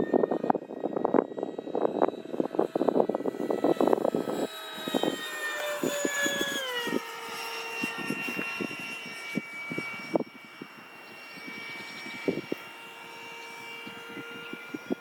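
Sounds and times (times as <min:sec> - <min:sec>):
electric ducted fan whining: 0:00.0 - 0:15.0
wind buffeting microphone: 0:00.0 - 0:15.0.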